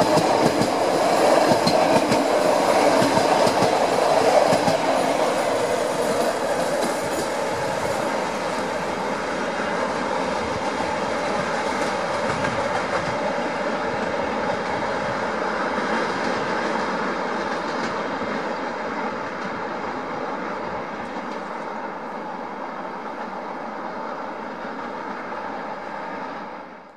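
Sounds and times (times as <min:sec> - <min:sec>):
train rumbling and hissing: 0:00.0 - 0:26.9.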